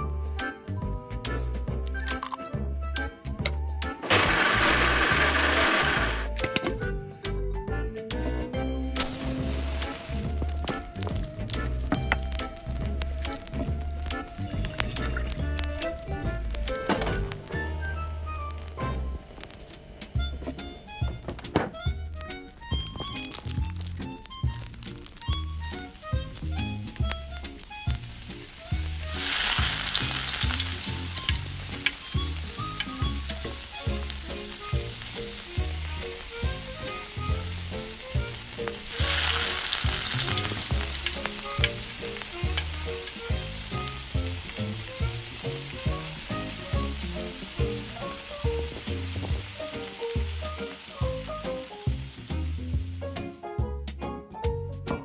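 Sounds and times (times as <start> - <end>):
shrimp sizzling in hot oil: 4.0 - 6.3, 9.0 - 20.2, 22.1 - 53.0.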